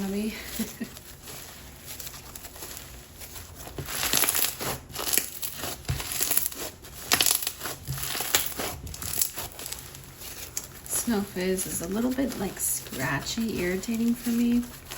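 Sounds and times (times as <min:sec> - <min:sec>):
slime crunching and crackling: 0:00.0 - 0:14.9.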